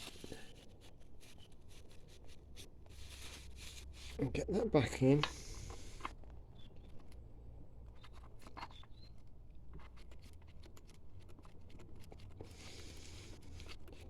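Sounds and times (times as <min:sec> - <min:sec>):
soft rustle: 0:00.0 - 0:14.0.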